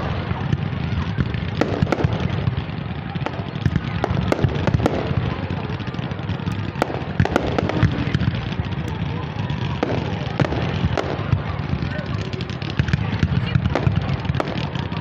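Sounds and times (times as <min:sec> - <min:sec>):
fireworks bangs and pops: 0:00.0 - 0:15.0
fireworks crackle: 0:00.0 - 0:15.0.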